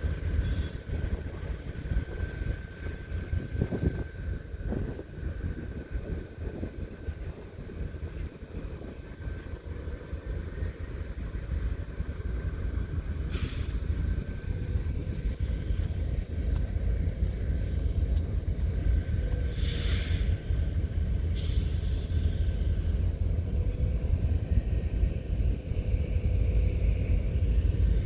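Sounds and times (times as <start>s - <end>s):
diesel locomotive engine rumbling: 0.0s - 28.0s.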